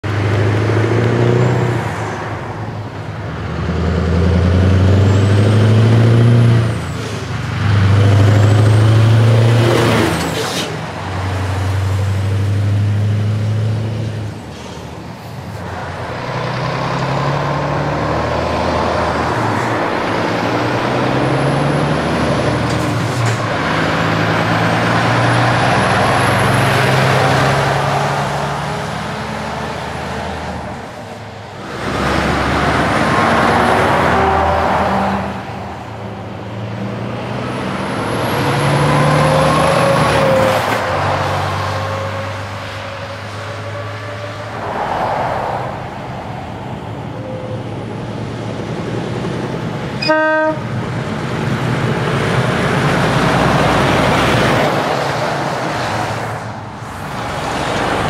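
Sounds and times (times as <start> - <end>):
truck engines with loud exhausts: 0.0 - 58.0.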